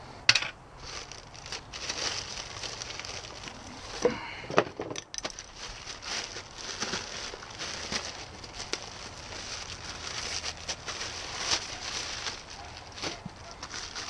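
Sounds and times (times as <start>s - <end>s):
plastic packaging crinkling: 0.8s - 14.0s.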